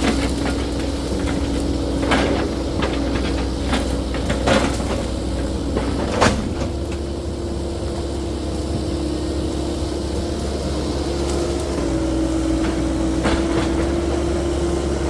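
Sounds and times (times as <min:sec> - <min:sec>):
excavator engine hum: 0:00.0 - 0:15.0.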